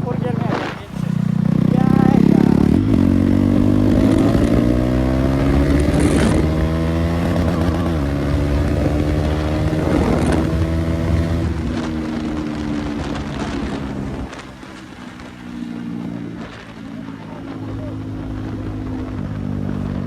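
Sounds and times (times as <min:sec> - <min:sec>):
unmuffled motorcycle engine: 0:00.0 - 0:20.0.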